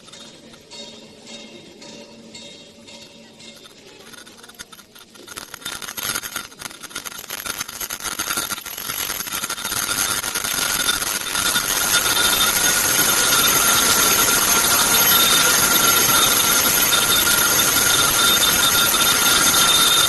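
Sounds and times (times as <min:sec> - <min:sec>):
machine mechanical clatter: 0:02.8 - 0:20.0
steady high whine: 0:03.4 - 0:20.0.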